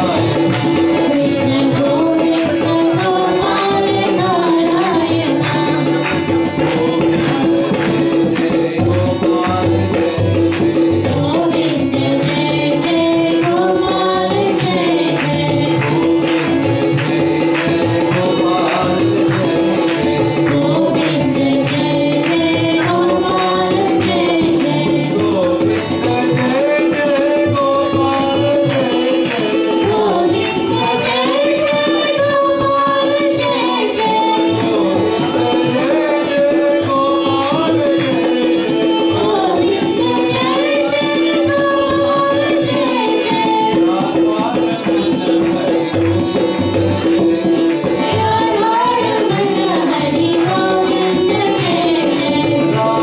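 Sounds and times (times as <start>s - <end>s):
man singing: 0.0s - 4.9s, 5.5s - 10.2s, 11.1s - 46.5s, 51.4s - 53.0s
hand percussion beat: 0.0s - 53.0s
harmonium drone: 0.0s - 53.0s.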